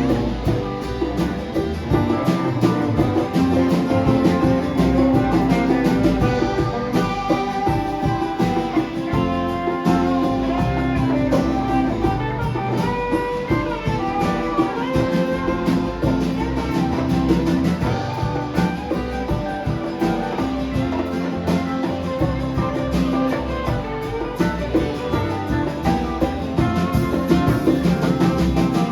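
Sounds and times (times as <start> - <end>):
band playing live: 0.0 - 28.9
guitar: 0.0 - 28.9.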